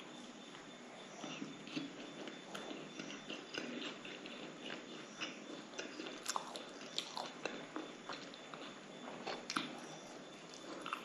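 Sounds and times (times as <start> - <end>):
chewing with mouth clicks: 1.2 - 11.0.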